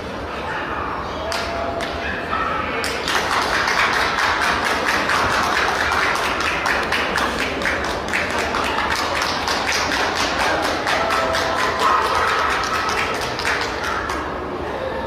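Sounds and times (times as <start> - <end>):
hubbub of many people: 0.0 - 15.0.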